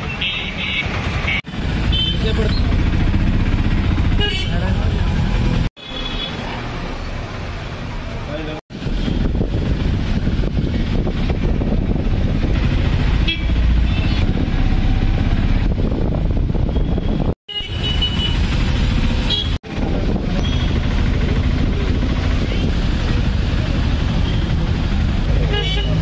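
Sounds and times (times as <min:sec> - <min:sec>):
auto-rickshaw engine running: 0:00.0 - 0:05.7, 0:08.7 - 0:26.0
road and wind noise: 0:00.0 - 0:26.0.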